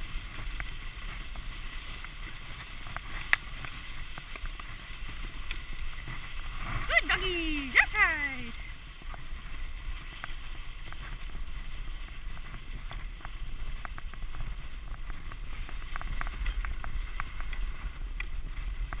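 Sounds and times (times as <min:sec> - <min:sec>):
sled runners rumbling on snow: 0:00.0 - 0:19.0.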